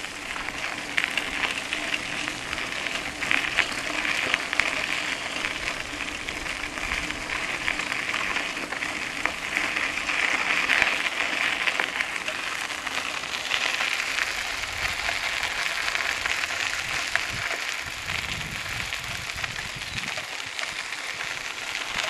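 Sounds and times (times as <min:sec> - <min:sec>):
bicycle tyres rolling on gravel: 0:00.0 - 0:22.0.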